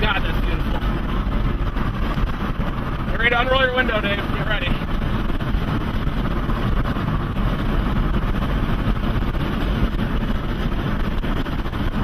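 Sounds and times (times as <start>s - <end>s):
vehicle cabin rumble: 0.0s - 12.0s.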